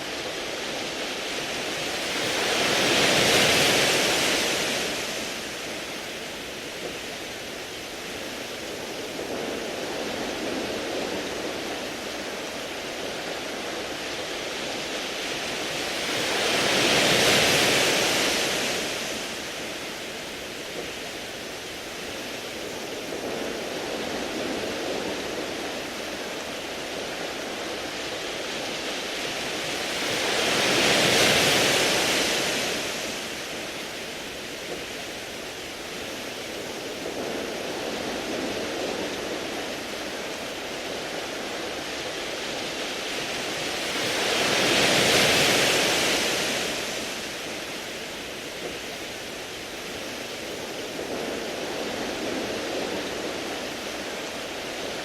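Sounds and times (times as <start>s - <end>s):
waves washing over pebbles: 0.0s - 55.0s.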